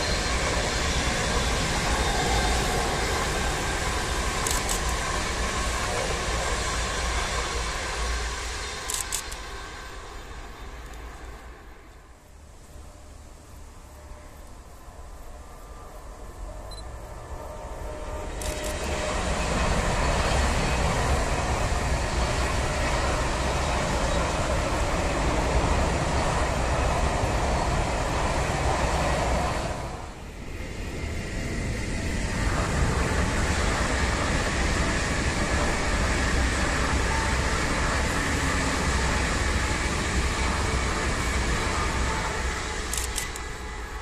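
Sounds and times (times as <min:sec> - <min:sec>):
high-speed trains passing: 0:00.0 - 0:44.0.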